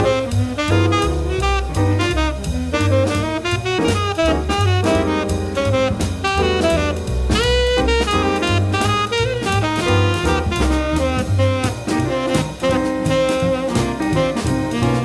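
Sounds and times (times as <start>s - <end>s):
jazz quartet playing: 0.0s - 15.0s.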